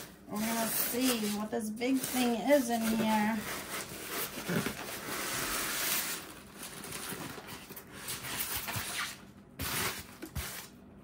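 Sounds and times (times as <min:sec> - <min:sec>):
packing material rustling: 0:00.0 - 0:10.8.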